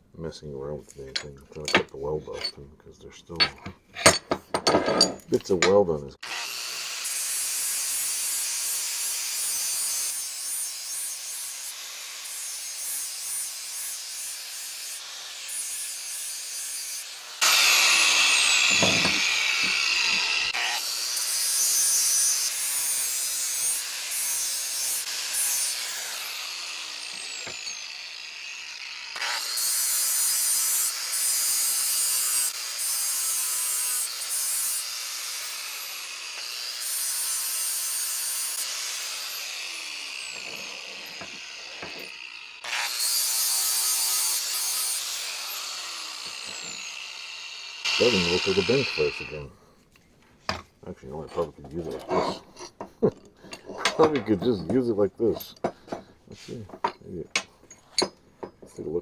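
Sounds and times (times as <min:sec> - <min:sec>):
grinder grinding metal: 0:01.0 - 0:02.6, 0:03.3 - 0:49.6.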